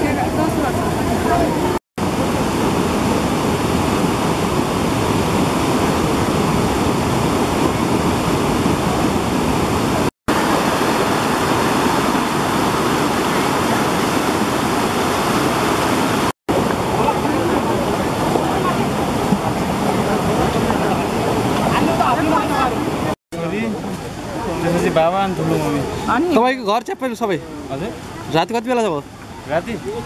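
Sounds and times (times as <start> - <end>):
stream rushing over boulders: 0.0 - 30.0.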